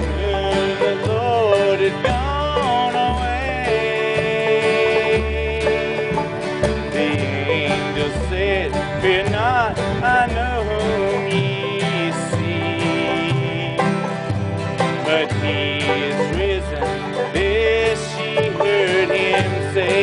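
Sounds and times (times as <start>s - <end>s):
banjo: 0.0s - 20.0s
plucked guitar: 0.0s - 20.0s
sliding lead melody: 0.0s - 20.0s
steady bass line: 0.0s - 20.0s.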